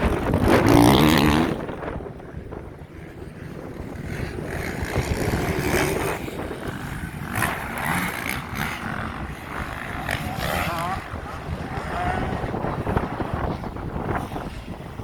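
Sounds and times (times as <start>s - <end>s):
dirt bike engines revving: 0.0s - 15.0s
wind buffeting microphone: 0.0s - 15.0s.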